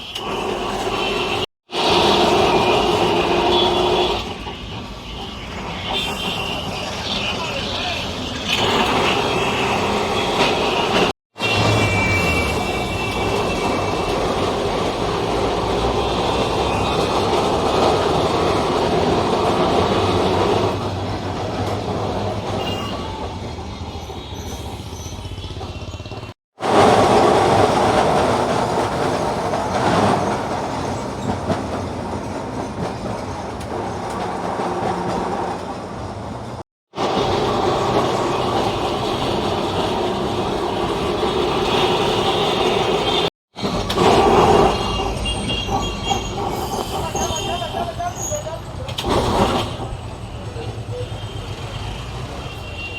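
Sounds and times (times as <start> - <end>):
tram wheels rumbling on rails: 0.0 - 52.9.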